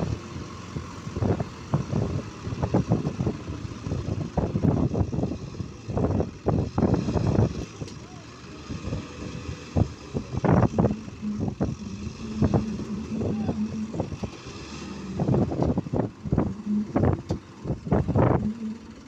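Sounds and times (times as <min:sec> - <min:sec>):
tractor diesel engines under load: 0:00.0 - 0:19.0.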